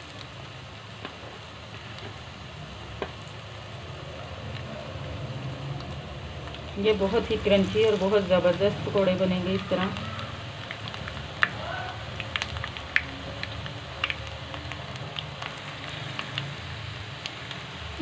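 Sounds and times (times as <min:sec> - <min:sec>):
deep-frying sizzle with pops: 0:00.0 - 0:18.0.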